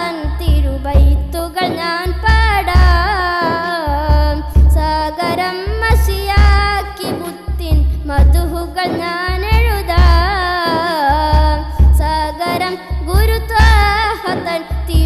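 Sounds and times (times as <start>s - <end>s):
boy singing devotional song: 0.0s - 15.0s
deep bass beat: 0.0s - 15.0s.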